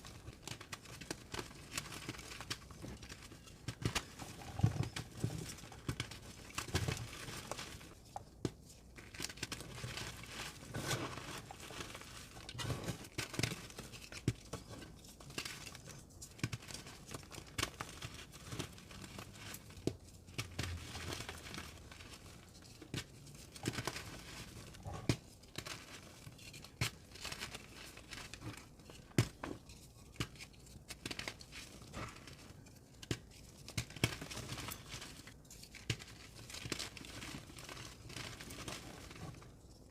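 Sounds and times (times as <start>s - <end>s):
chalk crunching and crumbling: 0.0s - 39.7s.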